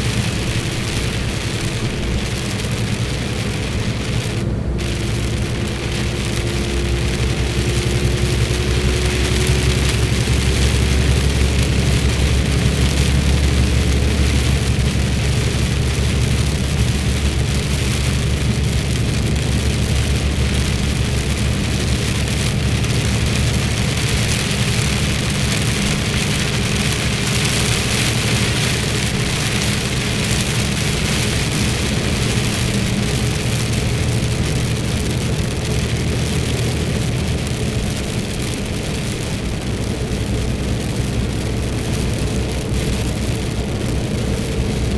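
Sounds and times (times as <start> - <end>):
rain hissing: 0.0 - 44.9
truck engine humming: 0.0 - 44.9.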